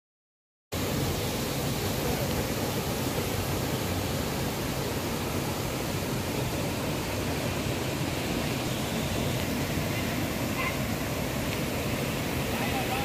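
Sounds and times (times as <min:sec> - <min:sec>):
waterfall pouring over rocks: 0:00.8 - 0:13.0.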